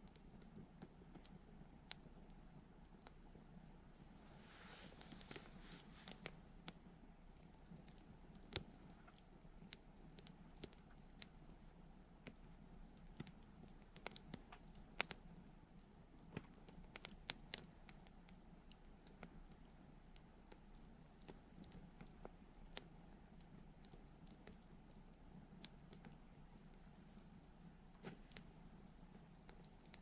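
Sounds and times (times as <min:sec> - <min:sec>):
faint low rumble: 0:00.0 - 0:30.0.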